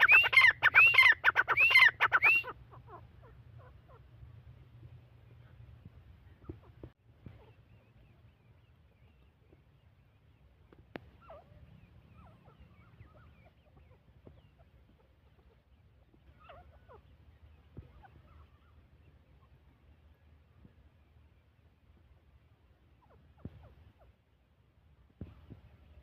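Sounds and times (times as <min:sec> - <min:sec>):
soft chirping bird calls: 0:00.0 - 0:26.0.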